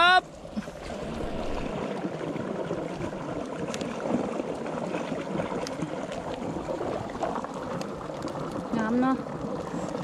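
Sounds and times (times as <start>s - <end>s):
water rushing and gurgling: 0.0s - 10.0s.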